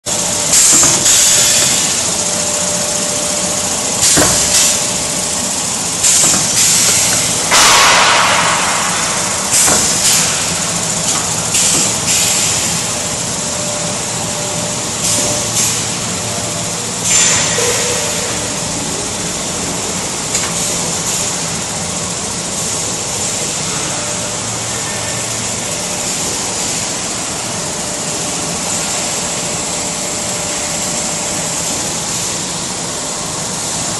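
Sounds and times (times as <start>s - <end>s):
machine humming: 0.0s - 33.9s.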